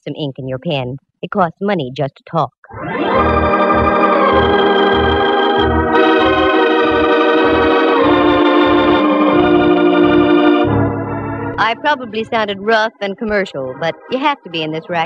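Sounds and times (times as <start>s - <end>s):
organ chords with pulsing bass: 2.7s - 15.0s.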